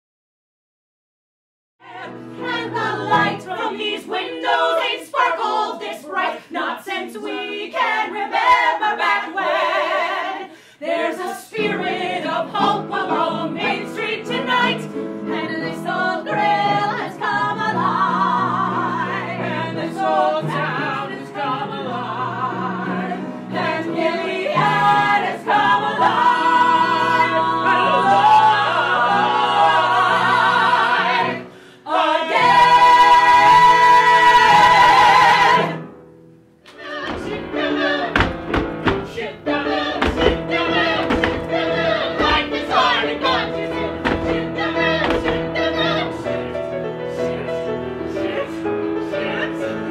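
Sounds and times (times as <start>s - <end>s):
mixed choir singing: 1.8s - 35.9s, 36.7s - 49.9s.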